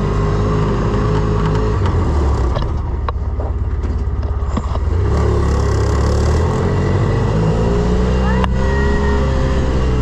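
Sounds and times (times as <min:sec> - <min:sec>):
utility vehicle engine running: 0:00.0 - 0:10.0.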